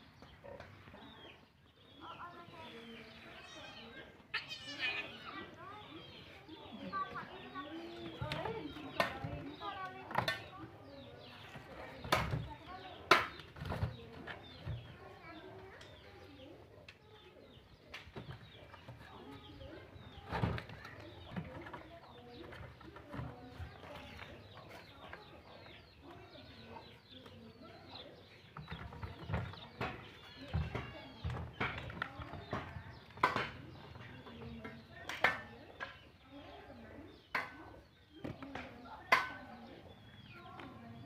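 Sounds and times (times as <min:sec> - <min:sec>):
birds chirping: 0:00.0 - 0:41.0
chickens calling: 0:00.0 - 0:41.0.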